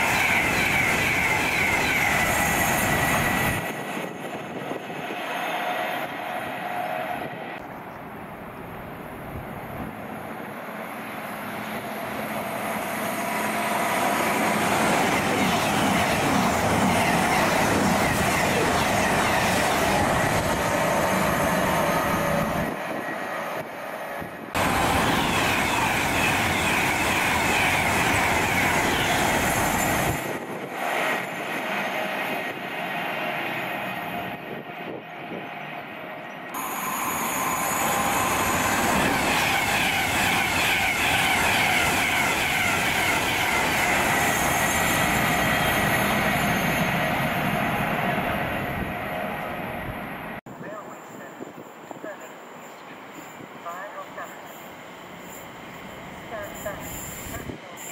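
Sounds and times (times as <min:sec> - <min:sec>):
rush of train wheels on rail: 0:00.0 - 0:57.9.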